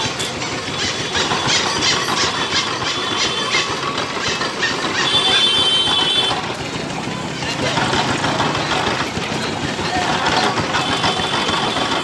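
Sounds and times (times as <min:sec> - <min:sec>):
juice machine rollers clattering: 0:00.0 - 0:12.0.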